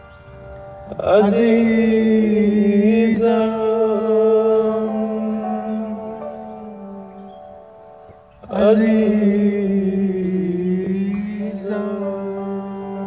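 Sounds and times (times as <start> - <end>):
man singing a long note: 0.9 - 7.3, 8.4 - 13.0.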